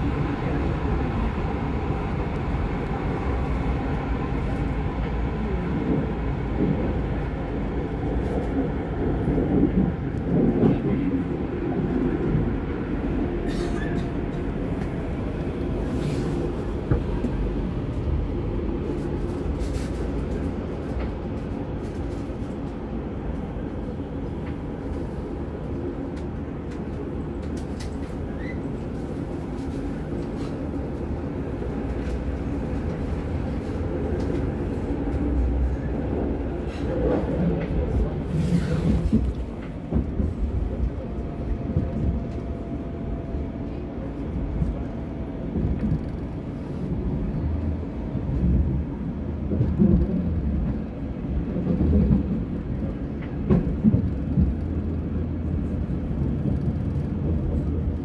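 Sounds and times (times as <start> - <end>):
train rumble with low hum: 0.0 - 58.0.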